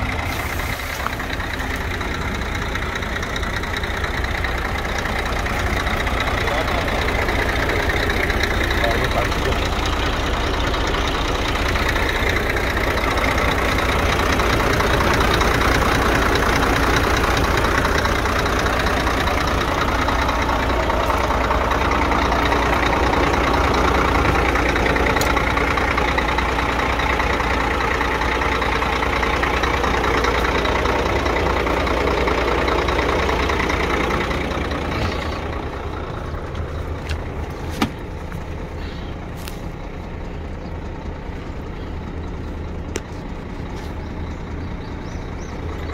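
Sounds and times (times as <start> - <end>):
diesel truck engine idling: 0.0 - 45.9.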